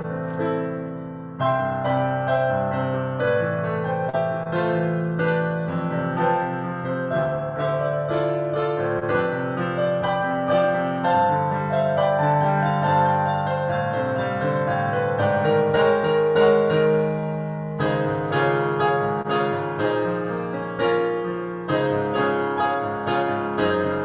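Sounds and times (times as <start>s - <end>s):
slow piano piece: 0.0s - 24.0s.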